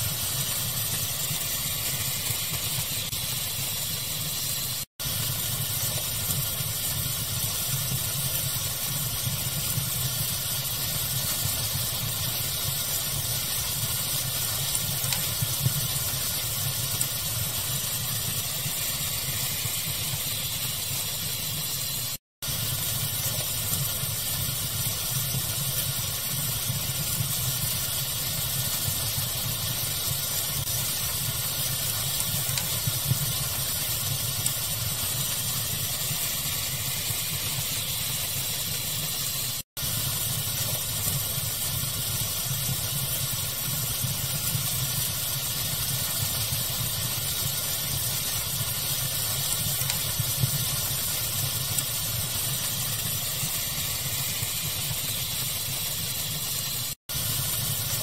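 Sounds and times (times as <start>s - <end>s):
fire crackling: 0.0s - 58.0s
pink noise hiss: 0.0s - 58.0s.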